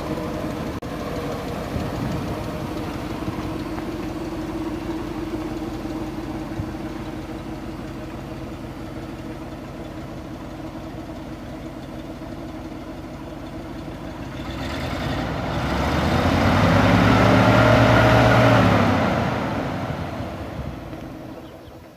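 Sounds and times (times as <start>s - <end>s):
truck engine idling and revving: 0.0s - 21.9s.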